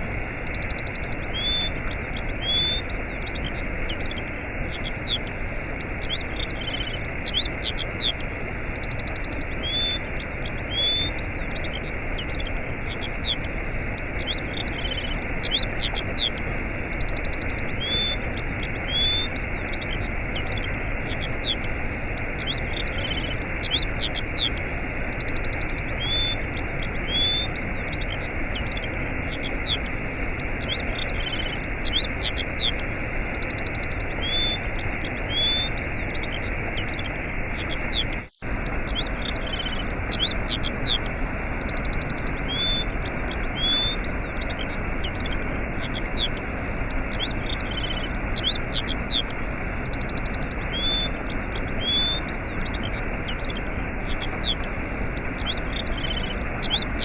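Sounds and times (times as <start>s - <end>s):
small birds chirping: 0.0s - 57.0s
waterfall rushing: 9.2s - 57.0s.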